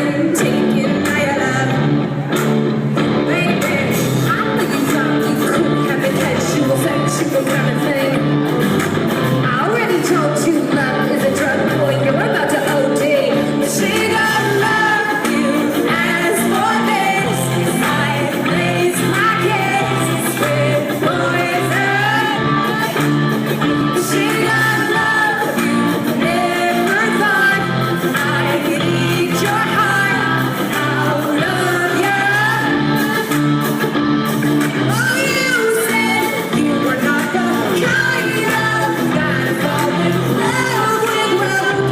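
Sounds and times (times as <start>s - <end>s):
woman singing: 0.0s - 1.8s, 3.2s - 8.5s, 9.4s - 33.7s, 34.8s - 41.9s
live rock pop song: 0.0s - 41.9s.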